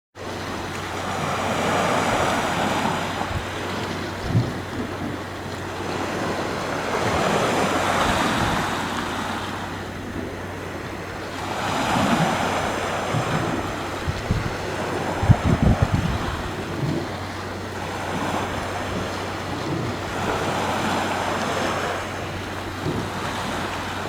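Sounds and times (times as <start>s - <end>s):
sea waves breaking: 0.2s - 24.0s
wind buffeting microphone: 0.2s - 24.0s.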